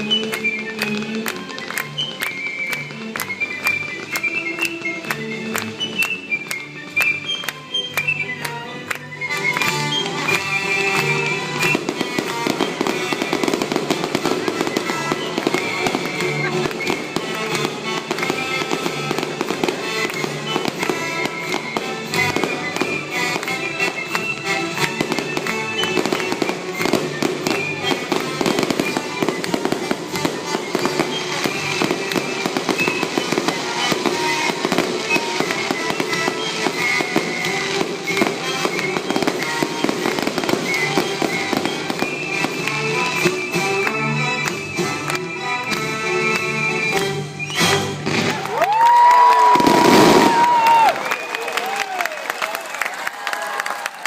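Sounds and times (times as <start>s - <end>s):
background music: 0.0s - 51.7s
fireworks bursting and crackling: 0.0s - 53.9s.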